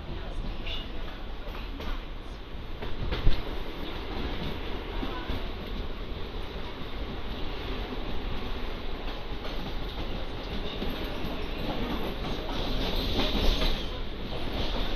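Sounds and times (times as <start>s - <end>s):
train rumble from inside: 0.0s - 14.9s.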